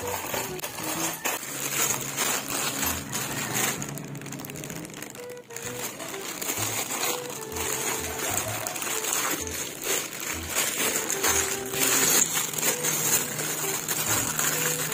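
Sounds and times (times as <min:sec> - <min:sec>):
plastic mailer crinkling: 0:00.0 - 0:14.9
quiet background music: 0:00.0 - 0:14.9.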